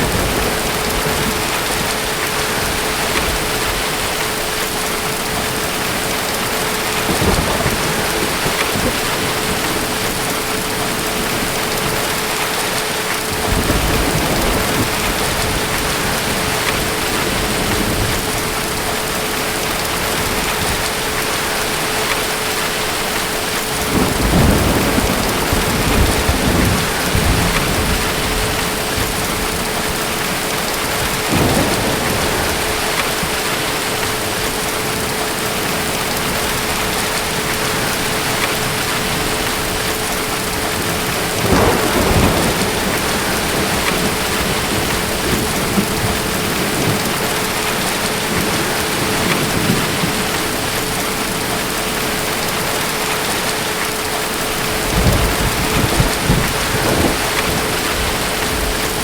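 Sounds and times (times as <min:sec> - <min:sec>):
distant thunder rumbling: 0:00.0 - 0:53.4, 0:54.3 - 0:59.0
heavy rain: 0:00.0 - 0:59.0.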